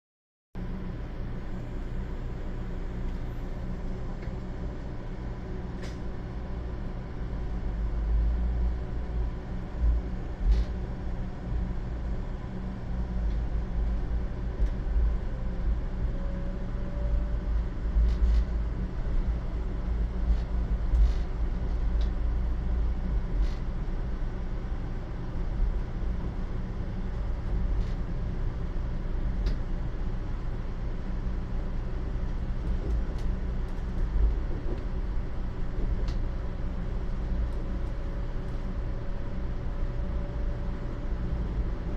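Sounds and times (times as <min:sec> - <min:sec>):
train low rumble inside car: 0:00.6 - 0:41.9.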